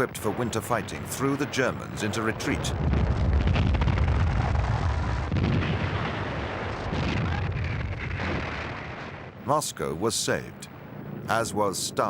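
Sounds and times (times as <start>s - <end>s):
artillery rumble: 0.0s - 9.9s.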